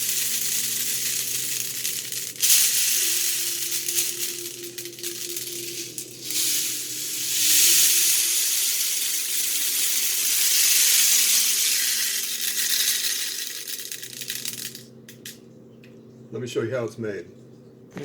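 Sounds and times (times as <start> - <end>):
rain stick rushing hiss: 0.0 - 14.8.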